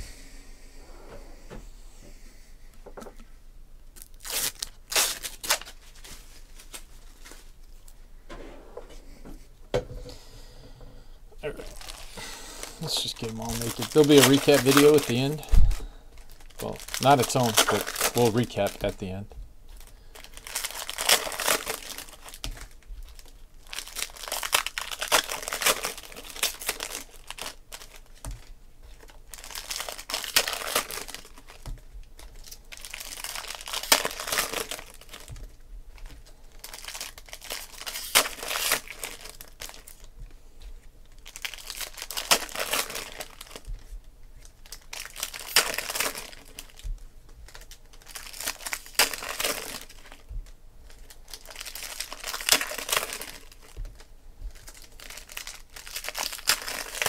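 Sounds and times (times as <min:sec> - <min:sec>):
foil wrappers tearing and crinkling: 0:04.0 - 0:08.0, 0:11.6 - 0:40.2, 0:41.0 - 0:57.0.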